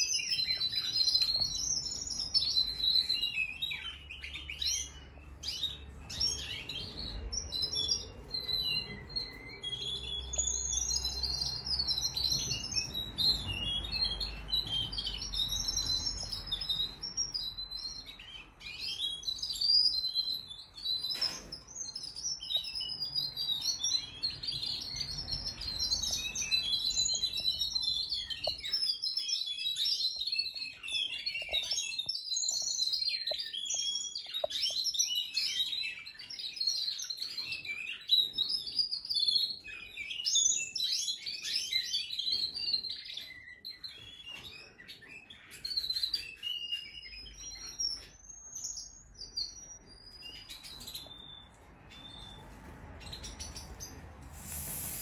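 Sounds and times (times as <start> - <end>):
canaries singing: 0.0 - 55.0.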